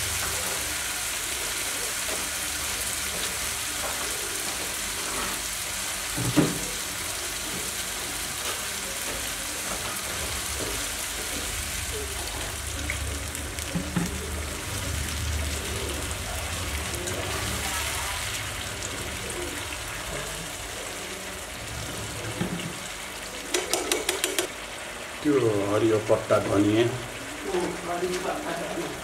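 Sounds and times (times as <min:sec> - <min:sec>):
masala sizzling in a frying pan: 0:00.0 - 0:29.0.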